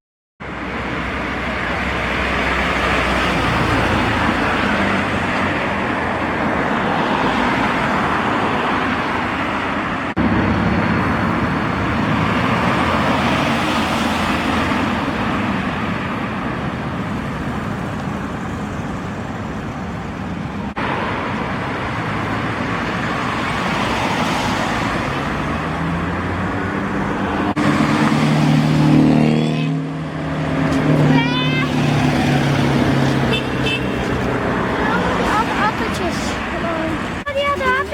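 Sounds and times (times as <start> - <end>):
cars driving past: 0.4 - 37.9.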